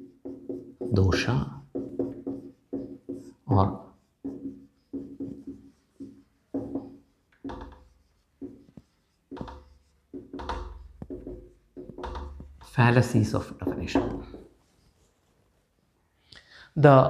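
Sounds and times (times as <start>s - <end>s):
marker squeaking on whiteboard: 0.0s - 15.1s.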